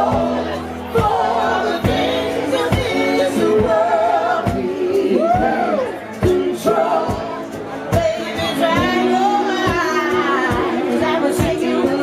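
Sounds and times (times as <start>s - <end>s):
person singing: 0.0s - 12.0s
steady drum beat: 0.0s - 12.0s.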